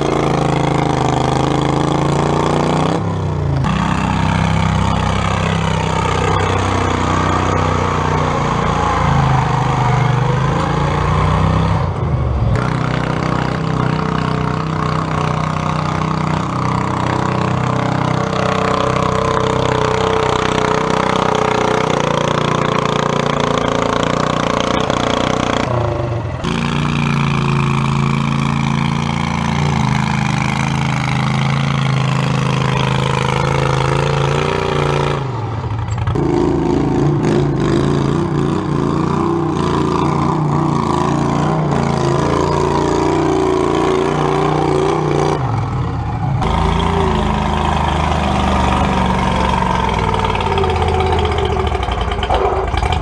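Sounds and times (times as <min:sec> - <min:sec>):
garden tractor engine under load: 0:00.0 - 0:53.0.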